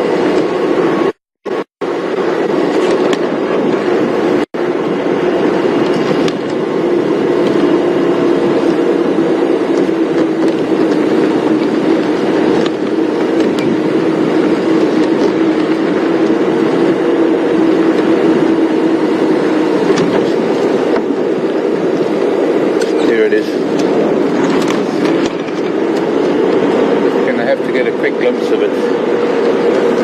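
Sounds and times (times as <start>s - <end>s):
rumbling road noise: 0.0s - 30.0s
vehicle engine droning: 0.0s - 30.0s.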